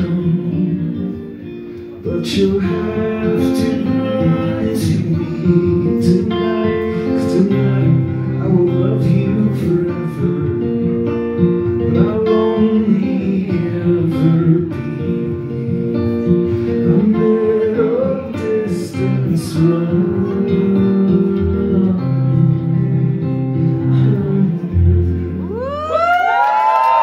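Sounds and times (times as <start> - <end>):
acoustic guitar strumming: 0.0 - 25.8
man singing: 0.0 - 25.9.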